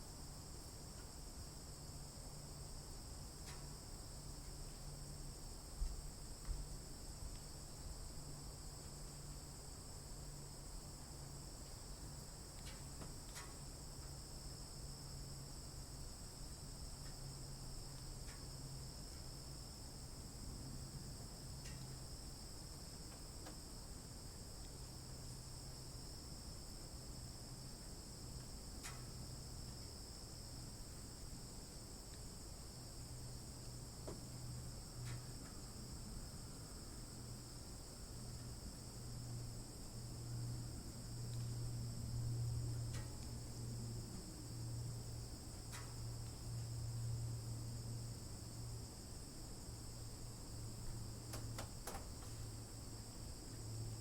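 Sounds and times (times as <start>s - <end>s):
crickets trilling: 0.1s - 54.0s.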